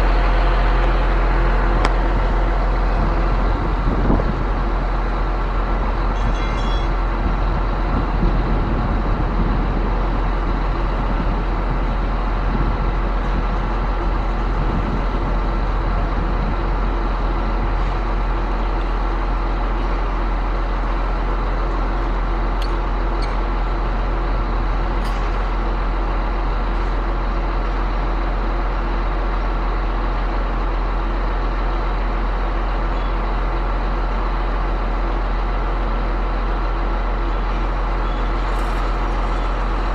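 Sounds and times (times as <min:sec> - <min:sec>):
concrete pump drone: 0:00.0 - 0:39.9.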